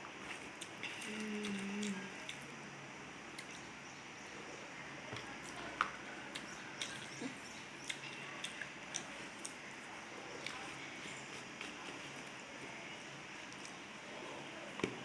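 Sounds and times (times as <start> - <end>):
soft chewing of food: 0.0 - 15.0.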